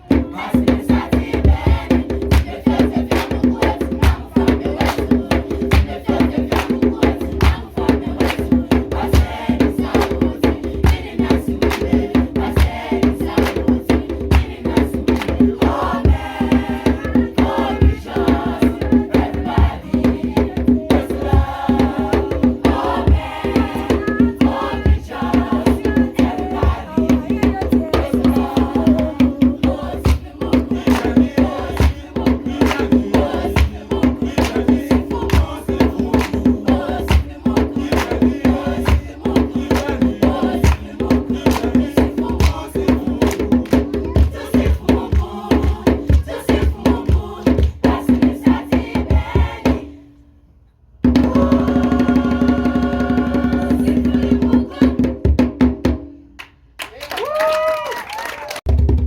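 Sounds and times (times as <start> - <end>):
children's choir singing: 0.0 - 50.0, 51.2 - 55.1
fast percussion beat: 0.0 - 50.0, 51.0 - 56.2, 58.6 - 59.0.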